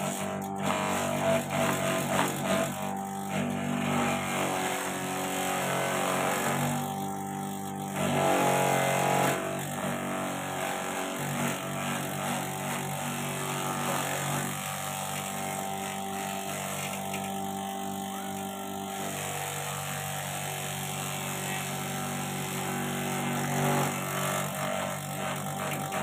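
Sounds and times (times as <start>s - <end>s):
electric motor hum: 0.0s - 26.0s
feed grinder grinding: 0.0s - 26.0s.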